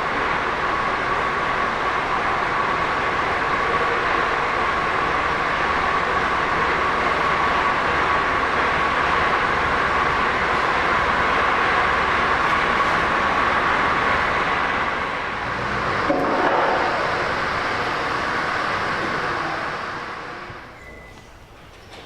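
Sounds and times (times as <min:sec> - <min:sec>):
train rolling with high whine: 0:00.0 - 0:22.0.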